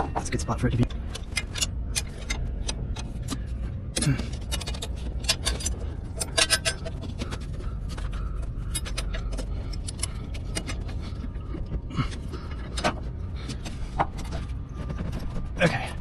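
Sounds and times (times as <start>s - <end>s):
metal clinking and scraping: 0.0s - 15.8s
steady low rumble: 0.0s - 16.0s.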